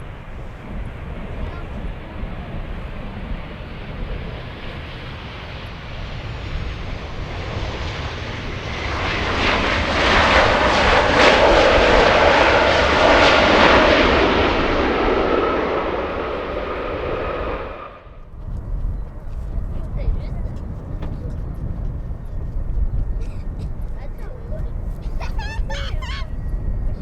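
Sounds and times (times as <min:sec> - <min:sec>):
jet airliner engine passing by: 0:00.0 - 0:27.0.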